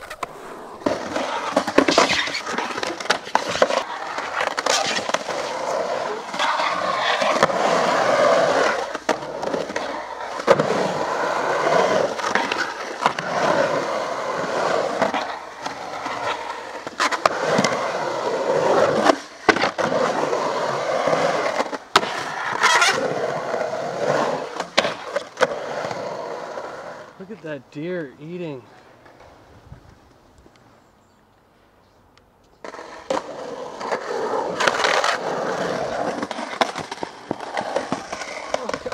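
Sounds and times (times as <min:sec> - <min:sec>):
skateboard trucks grinding on coping: 0:00.0 - 0:29.6, 0:32.6 - 0:38.9
skateboard wheels rumbling on concrete: 0:00.0 - 0:30.8, 0:32.3 - 0:38.9.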